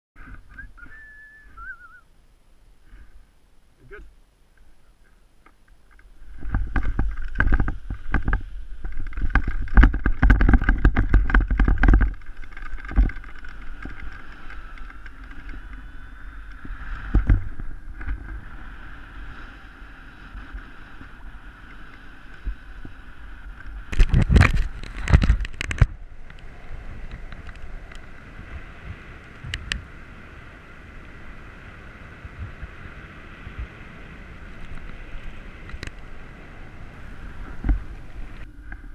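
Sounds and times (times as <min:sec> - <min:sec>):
wind buffeting microphone: 0:06.1 - 0:38.9.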